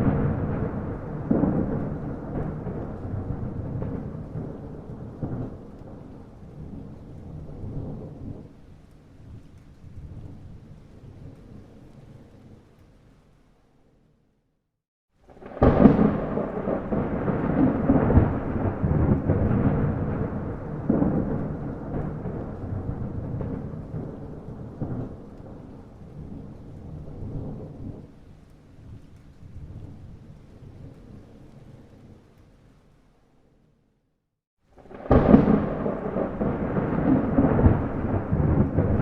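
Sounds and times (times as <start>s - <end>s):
thunder rumbling and crackling: 0.0s - 13.3s, 15.2s - 32.9s, 34.7s - 39.0s
rain: 0.0s - 14.4s, 15.1s - 39.0s.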